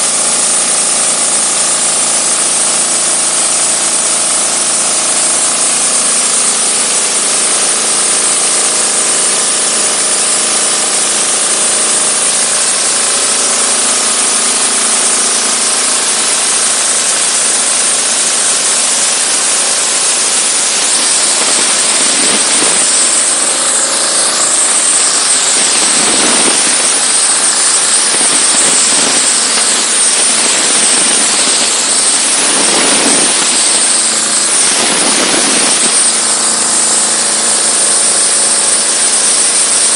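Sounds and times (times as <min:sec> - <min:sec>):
high-pressure water jet hissing: 0:00.0 - 0:39.9
pressure washer engine hum: 0:00.0 - 0:39.9.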